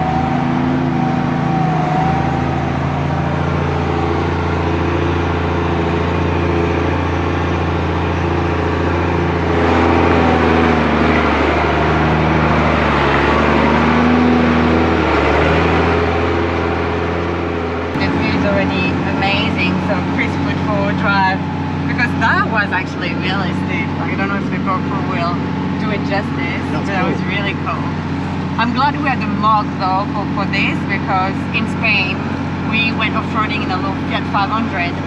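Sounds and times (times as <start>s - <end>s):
diesel truck engine: 0.0s - 35.0s.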